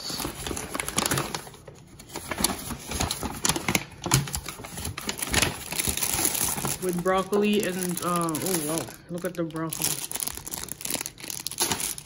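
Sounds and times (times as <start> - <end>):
paper bag rustling: 0.0 - 12.0
plastic packets crinkling: 0.0 - 12.0.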